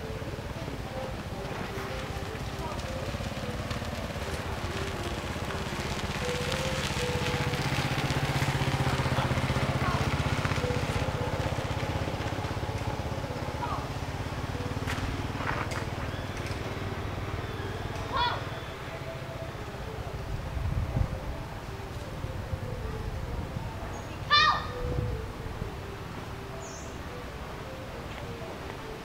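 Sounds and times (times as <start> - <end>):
motor engine humming: 0.0 - 29.0.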